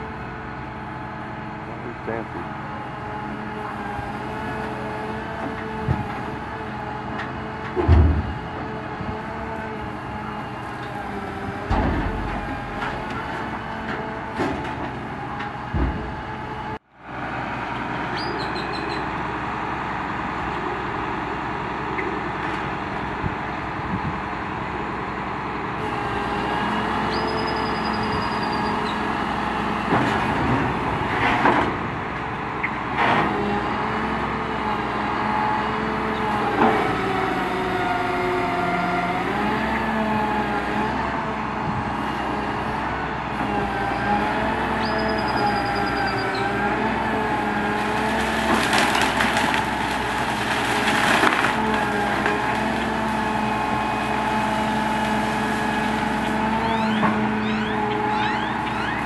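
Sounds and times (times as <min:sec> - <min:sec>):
truck engine running: 0:00.0 - 0:59.0
hydraulics working: 0:00.2 - 0:16.8, 0:17.7 - 0:59.0.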